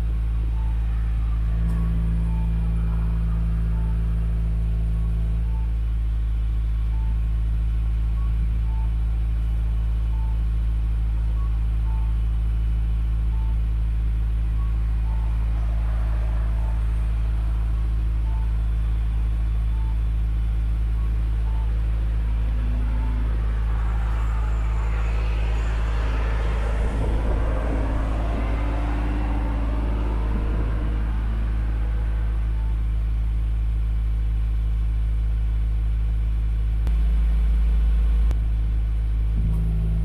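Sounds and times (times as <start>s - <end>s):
car exhaust idling drone: 0.0s - 40.0s.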